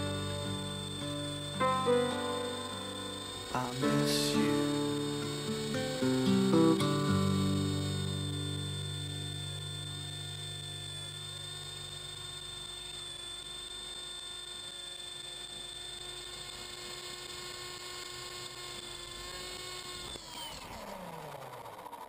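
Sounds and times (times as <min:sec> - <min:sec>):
toy helicopter rotor whine: 0:00.0 - 0:22.0.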